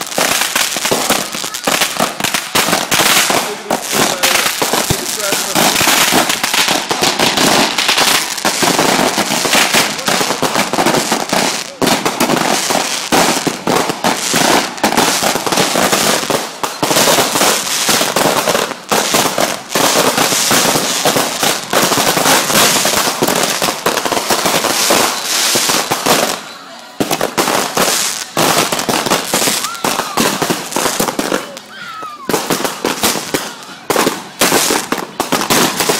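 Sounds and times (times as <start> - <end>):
fireworks bangs and crackles: 0.0 - 35.9.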